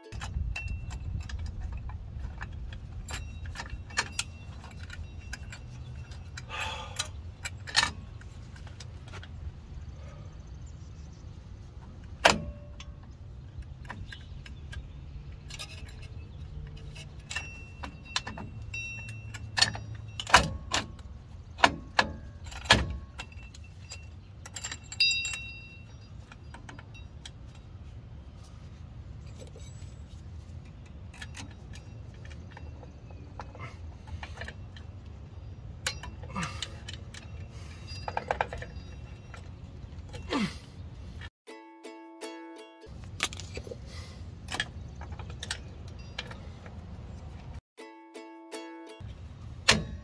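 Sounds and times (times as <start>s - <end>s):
metal brake parts clinking: 0.0s - 10.2s, 11.8s - 41.3s, 42.9s - 47.6s.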